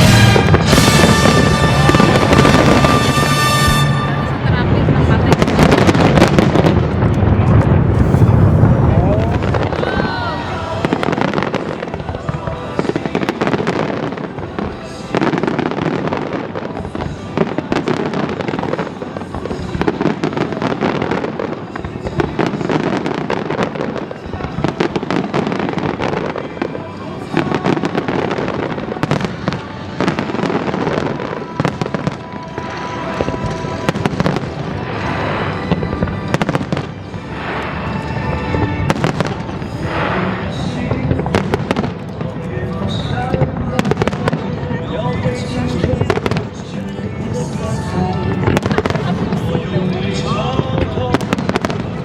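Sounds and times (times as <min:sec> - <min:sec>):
fireworks bangs and crackling: 0:00.0 - 0:52.0
music playing: 0:00.0 - 0:52.0.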